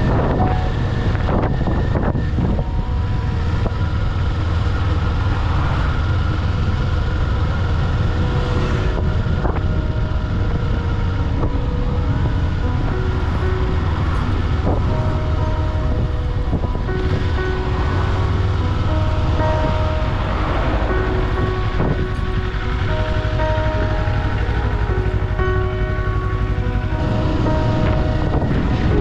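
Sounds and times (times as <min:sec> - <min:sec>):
background music: 0:00.0 - 0:29.0
motorcycle engine running: 0:00.0 - 0:29.0
wind rushing over microphone: 0:00.0 - 0:29.0.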